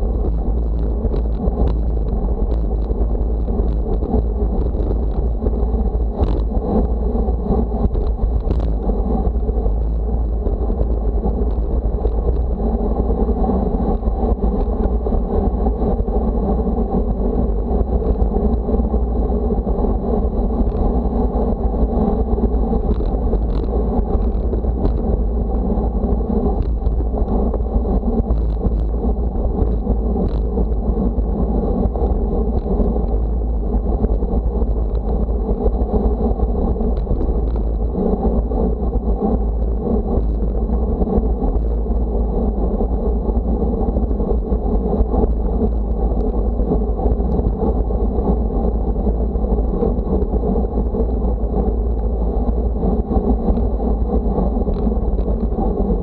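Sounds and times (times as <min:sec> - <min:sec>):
travel noise with deep rumble: 0:00.0 - 0:56.0
wind rushing over microphone: 0:00.0 - 0:56.0.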